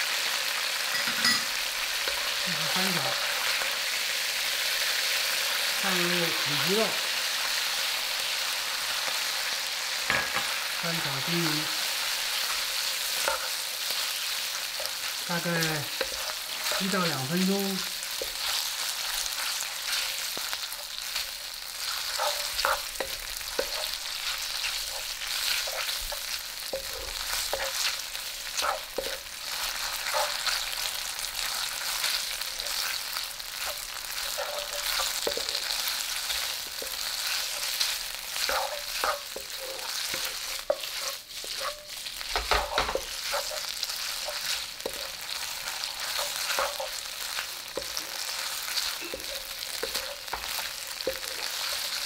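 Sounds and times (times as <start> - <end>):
pork sizzling in oil: 0.0 - 52.0
wooden spatula scraping wok: 10.0 - 52.0.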